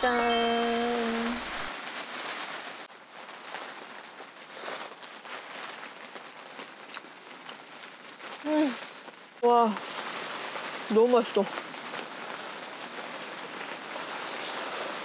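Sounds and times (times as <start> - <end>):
rain pattering on a tent: 0.0 - 15.0.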